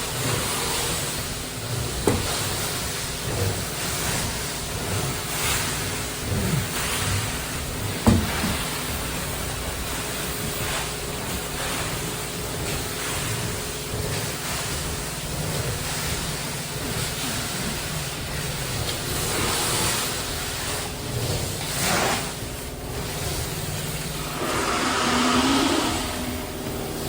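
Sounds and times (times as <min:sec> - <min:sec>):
carpet cleaning machine hum: 0:00.0 - 0:27.0
water spray and vacuum hiss: 0:00.0 - 0:27.0.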